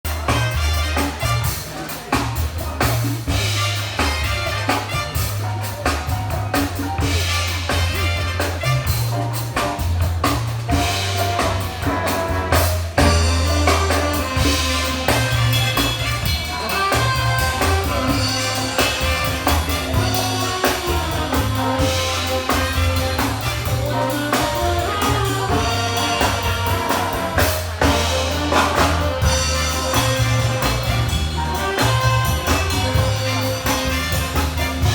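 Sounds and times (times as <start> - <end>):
big band jazz: 0.0 - 34.9.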